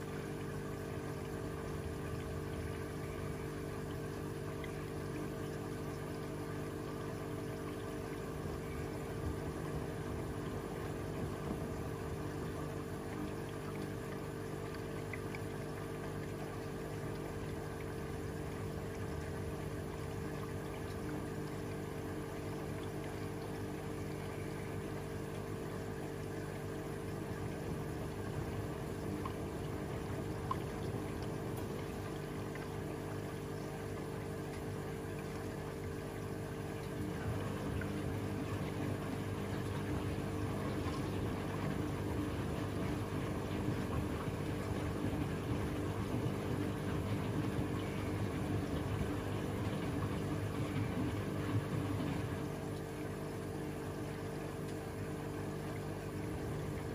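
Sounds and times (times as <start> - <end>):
washing machine motor hum: 0.0 - 56.9
water sloshing in drum: 0.0 - 56.9.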